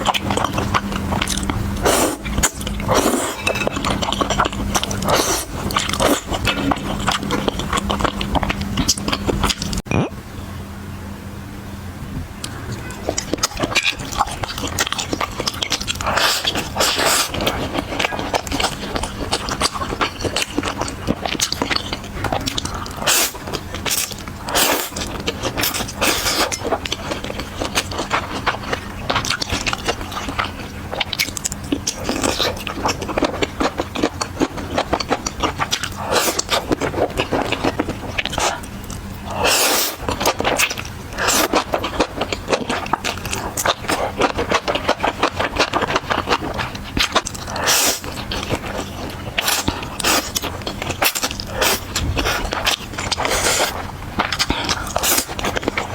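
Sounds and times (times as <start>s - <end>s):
chewing with clicks and smacks: 0.0s - 10.1s, 12.4s - 55.9s.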